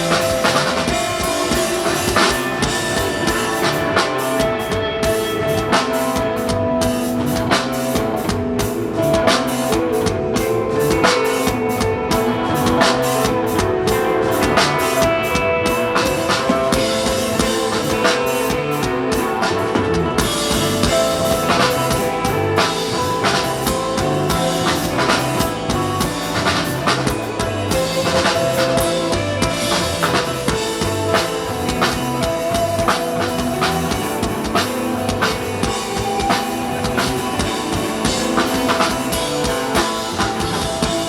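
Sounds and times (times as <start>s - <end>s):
bass guitar: 0.0s - 41.0s
drum kit steady beat: 0.0s - 41.0s
sustained electric guitar notes: 0.0s - 41.0s.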